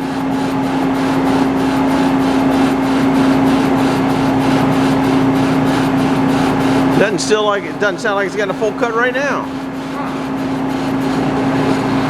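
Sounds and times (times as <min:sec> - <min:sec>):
lathe machine hum: 0:00.0 - 0:12.0
lathe tool scraping steel: 0:00.0 - 0:12.0.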